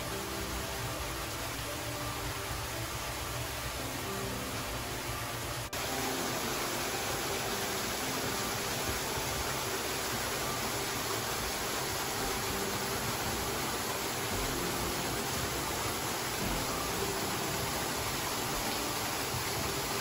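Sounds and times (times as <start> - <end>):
waterfall splashing into pool: 0.0 - 20.0.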